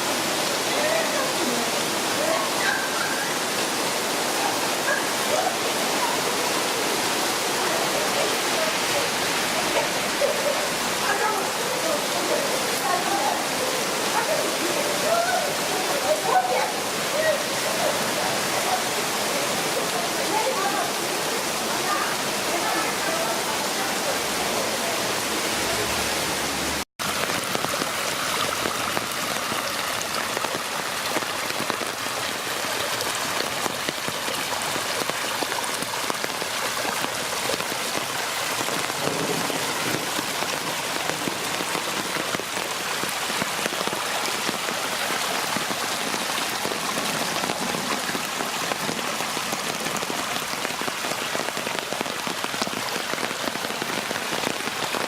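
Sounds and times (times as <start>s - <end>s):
rain splashing on city surfaces: 0.0s - 55.0s.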